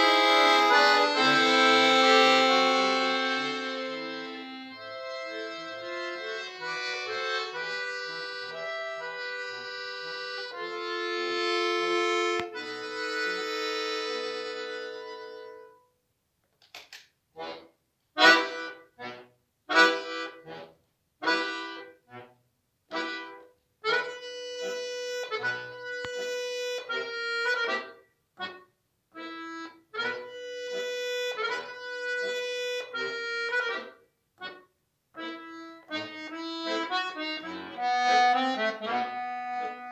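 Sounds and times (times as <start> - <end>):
button accordion playing chords: 0.0 - 15.9, 17.4 - 39.9.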